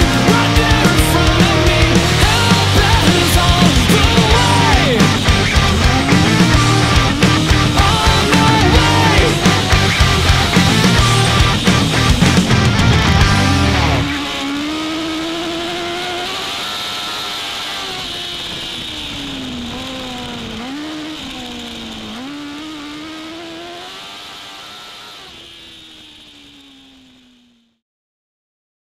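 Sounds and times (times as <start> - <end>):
race car engine revving: 0.0 - 27.8.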